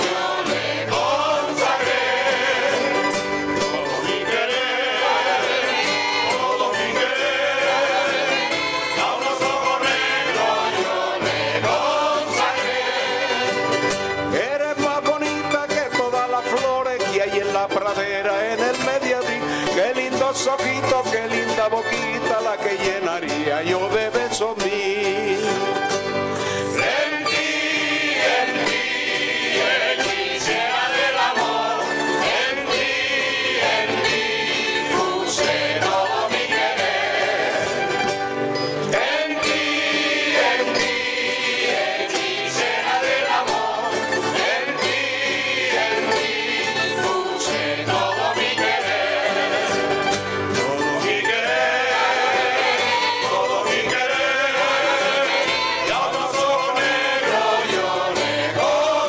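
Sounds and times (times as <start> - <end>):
voices singing together: 0.0 - 15.6, 18.6 - 59.0
background music: 0.0 - 59.0.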